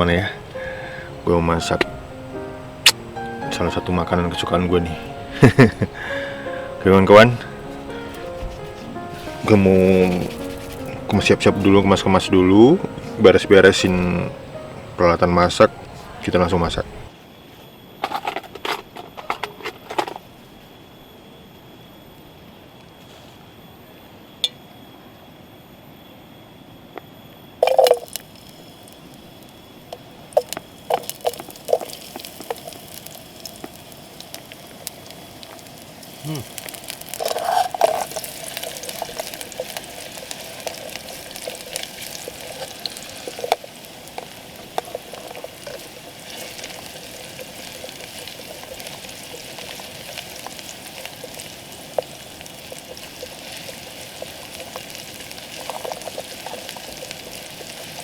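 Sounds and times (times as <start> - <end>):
steady hiss: 0.0 - 17.5, 27.6 - 58.0.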